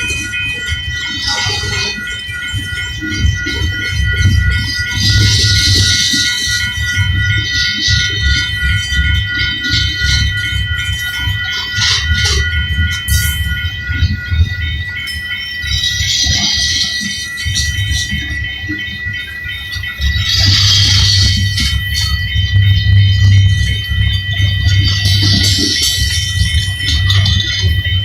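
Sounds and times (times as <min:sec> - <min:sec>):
railroad crossing bell ringing: 0:00.0 - 0:28.0
train cars rumbling and clattering: 0:00.0 - 0:28.0.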